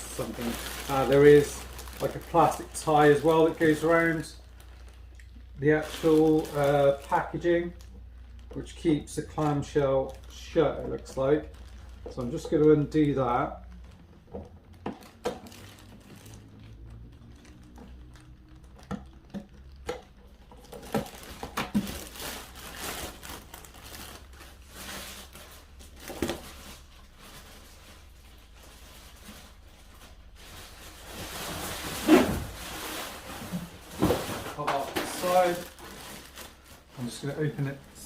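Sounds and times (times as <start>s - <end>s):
plastic wrap crinkling: 0.0s - 38.0s
clicks and knocks of packaging: 0.1s - 27.5s, 31.1s - 37.7s.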